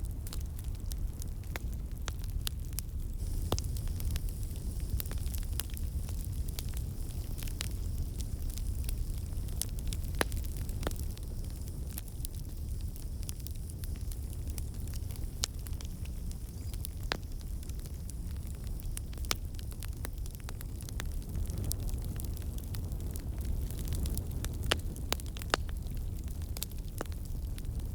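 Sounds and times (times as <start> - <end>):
wood fire crackling and popping: 0.0 - 27.9.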